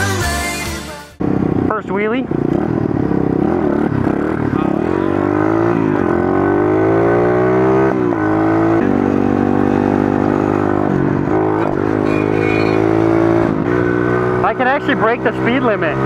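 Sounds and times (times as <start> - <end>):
pit bike engine revving: 1.2 - 16.0.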